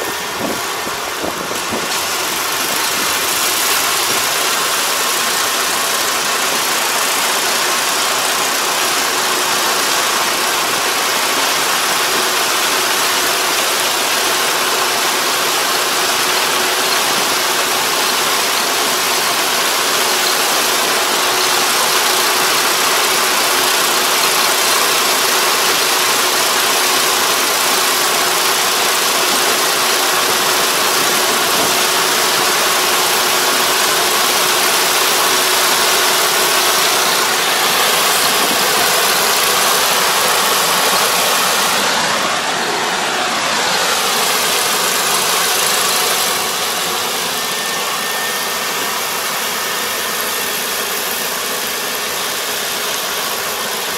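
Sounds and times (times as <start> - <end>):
combine harvester running: 0.0 - 53.9.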